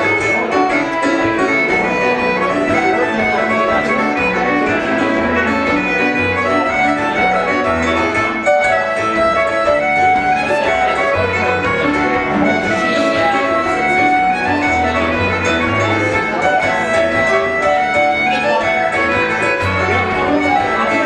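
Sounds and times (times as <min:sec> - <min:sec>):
backing chords: 0:00.0 - 0:21.0
bowed fiddle melody: 0:00.0 - 0:21.0.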